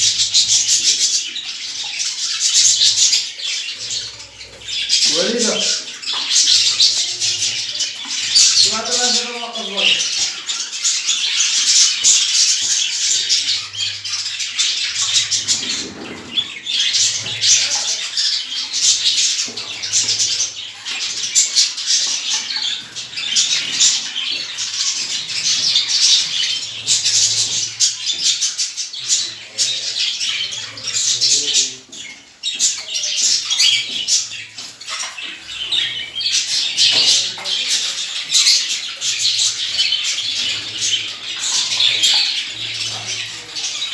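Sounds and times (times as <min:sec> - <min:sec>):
flock of birds chirping: 0:00.0 - 0:43.9.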